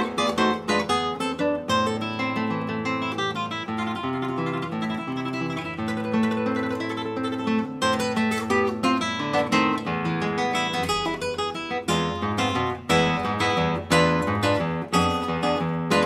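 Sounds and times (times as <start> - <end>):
classical guitar plucked notes: 0.0 - 16.0
strummed guitar chords: 0.0 - 16.0.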